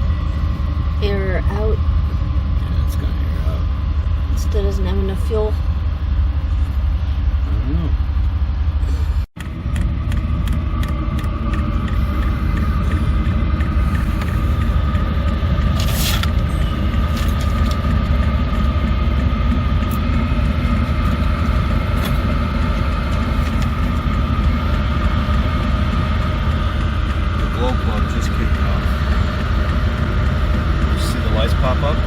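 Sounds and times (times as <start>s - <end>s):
van engine idling: 0.0s - 32.0s.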